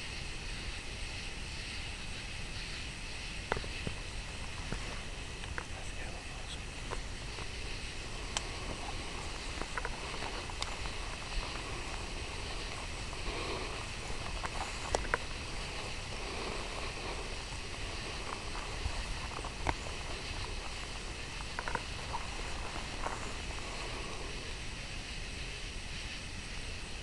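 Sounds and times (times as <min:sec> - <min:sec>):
steady hiss: 0:00.0 - 0:27.0
faint clicks and ticks: 0:02.7 - 0:24.6.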